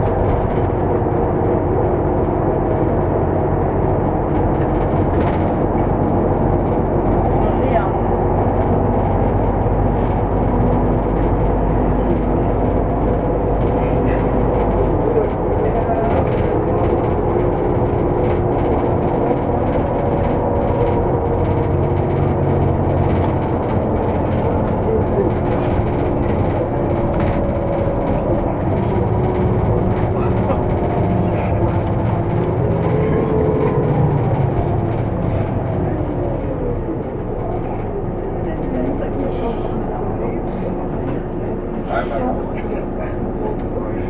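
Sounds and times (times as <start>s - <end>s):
bus engine drone: 0.0s - 44.0s.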